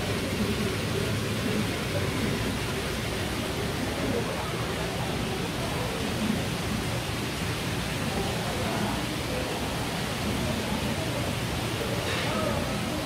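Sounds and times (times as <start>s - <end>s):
faint voices: 0.0s - 13.0s
water rushing in tanks: 0.0s - 13.0s.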